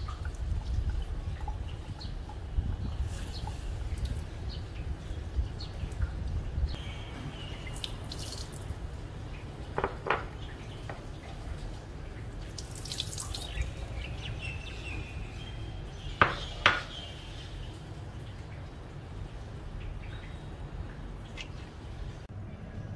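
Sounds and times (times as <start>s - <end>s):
birds chirping faintly: 1.2s - 22.9s.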